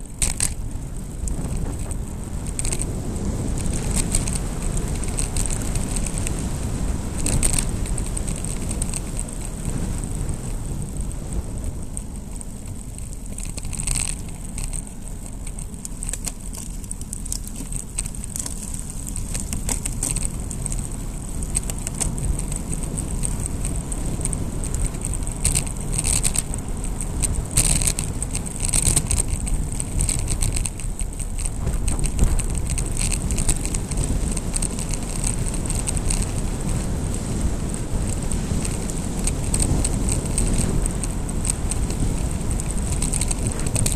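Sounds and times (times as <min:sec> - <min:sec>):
bicycle clicks and rattles: 0:00.0 - 0:43.9
low road rumble: 0:00.0 - 0:43.9
wind buffeting microphone: 0:00.0 - 0:43.9.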